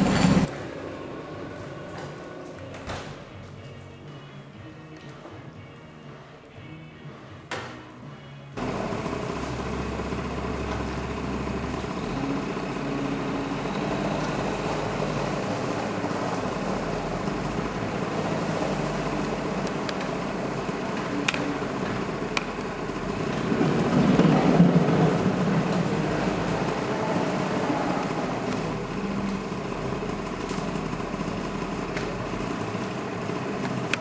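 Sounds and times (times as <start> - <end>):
machine humming: 0.0 - 2.8, 8.6 - 34.0.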